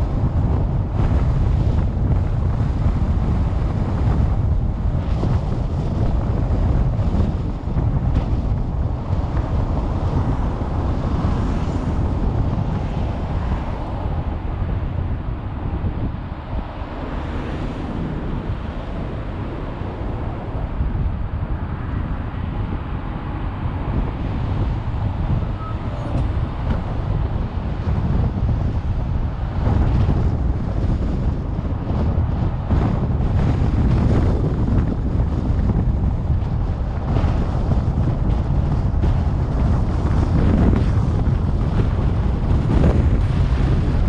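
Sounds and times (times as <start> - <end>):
car road and wind noise: 0.0 - 44.0.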